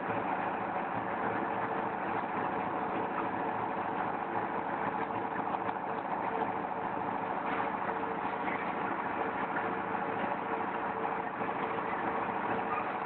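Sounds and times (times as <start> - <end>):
brick-moulding machine running: 0.0 - 13.0.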